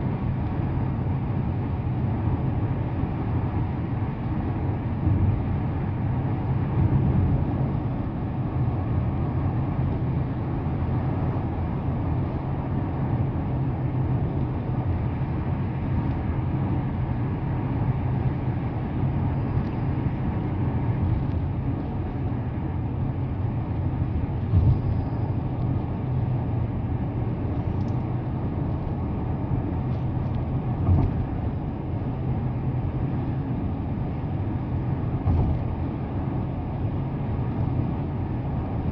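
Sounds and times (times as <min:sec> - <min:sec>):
car engine: 0:00.0 - 0:38.9
tyre and road noise: 0:01.6 - 0:38.9.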